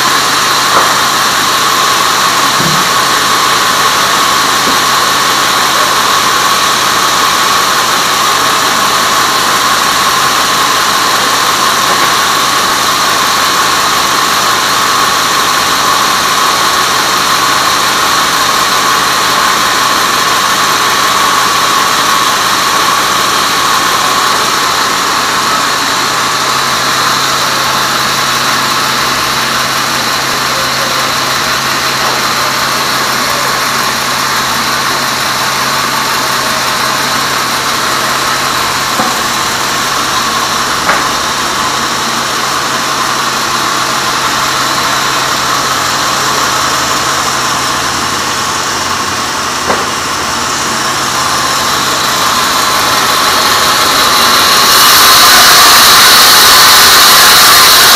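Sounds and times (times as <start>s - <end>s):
band saw running: 0.0s - 57.9s.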